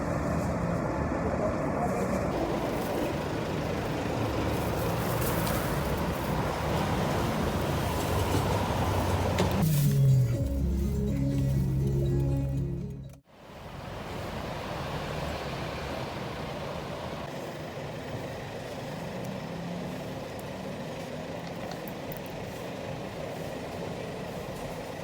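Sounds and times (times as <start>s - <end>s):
motor vehicle engine and road noise: 0.0s - 25.0s.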